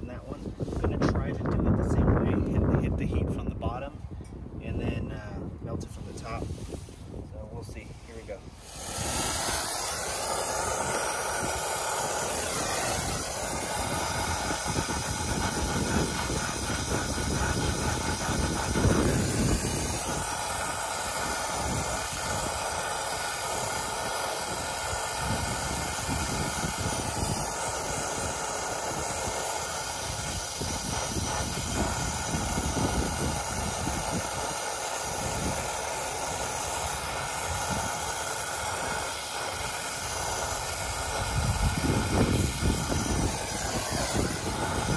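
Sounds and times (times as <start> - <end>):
torch flame hissing: 6.0 - 44.9.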